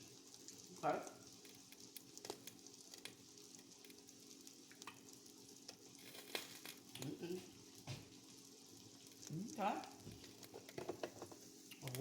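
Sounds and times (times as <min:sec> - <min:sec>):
food sizzling in a pan: 0:00.0 - 0:12.0
crackling pops: 0:01.3 - 0:08.2, 0:08.9 - 0:12.0.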